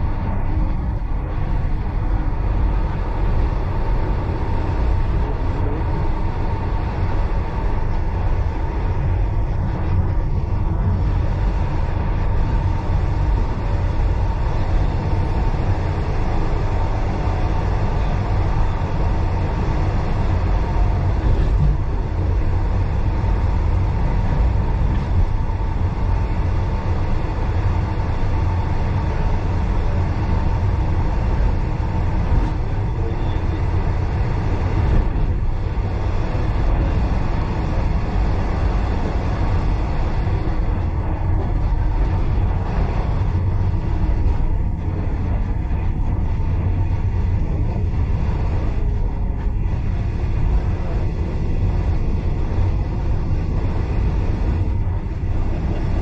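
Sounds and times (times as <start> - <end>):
faint steady whine: 0.0 - 56.0.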